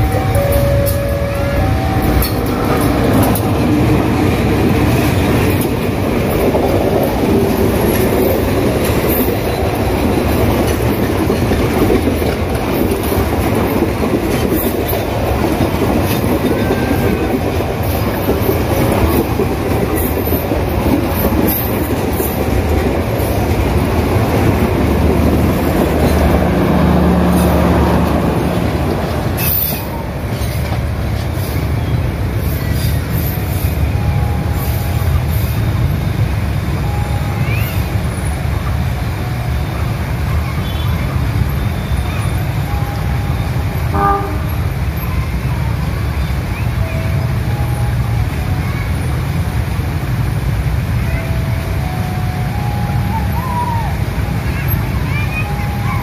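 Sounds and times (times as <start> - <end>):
passenger train passing: 0.0 - 56.0.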